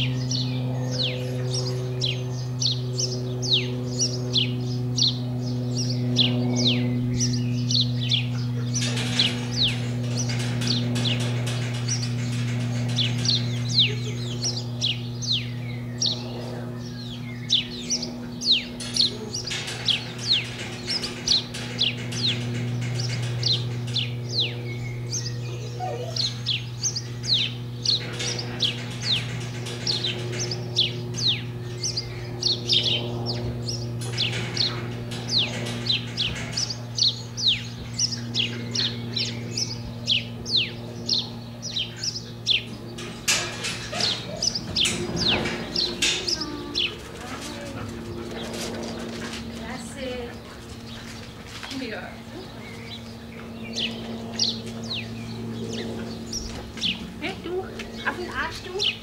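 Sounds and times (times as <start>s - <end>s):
low hum: 0.0s - 59.0s
small birds chirping: 0.0s - 59.0s.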